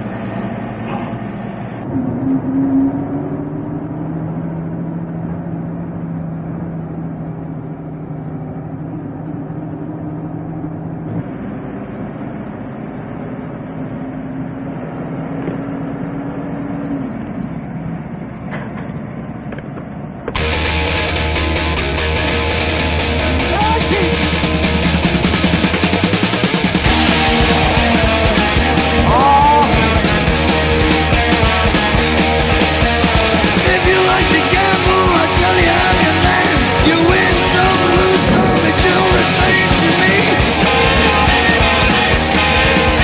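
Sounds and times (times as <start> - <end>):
truck engine droning: 0.0 - 43.0.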